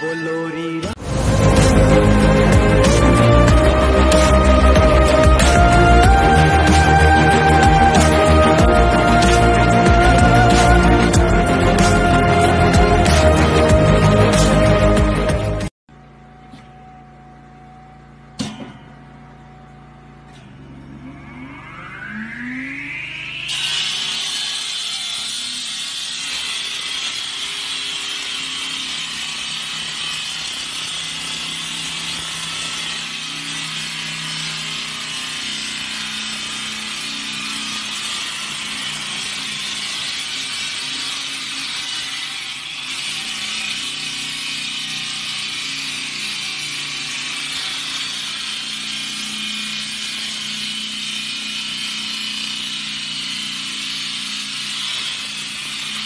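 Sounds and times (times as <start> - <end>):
saw blade grinding concrete: 0.0 - 15.7, 21.0 - 56.0.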